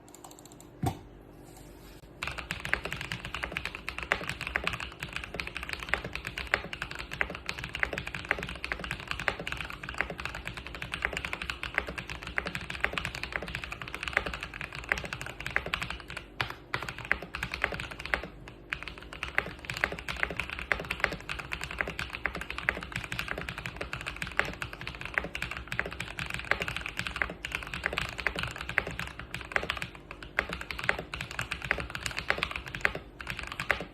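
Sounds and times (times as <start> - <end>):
fast typing on mechanical keyboard: 0.1 - 0.6, 2.1 - 33.9.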